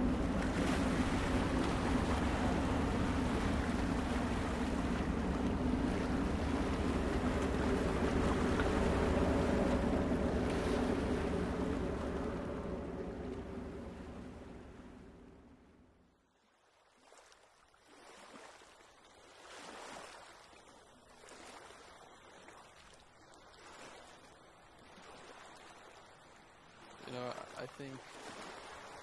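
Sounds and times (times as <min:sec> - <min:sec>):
waves breaking on beach: 0:00.0 - 0:15.7, 0:16.8 - 0:29.0
wind: 0:00.0 - 0:29.0.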